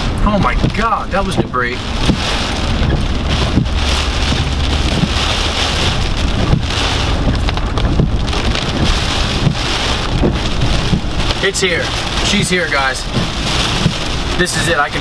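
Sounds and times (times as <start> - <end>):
rain and wind beating on car: 0.0 - 15.0.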